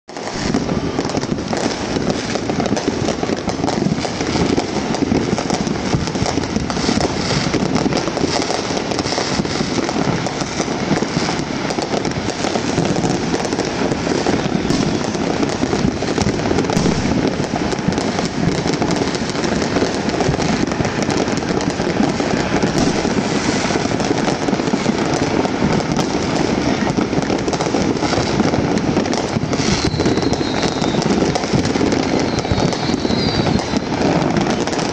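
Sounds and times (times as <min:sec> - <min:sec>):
fireworks and firecrackers crackling: 0:00.1 - 0:34.9.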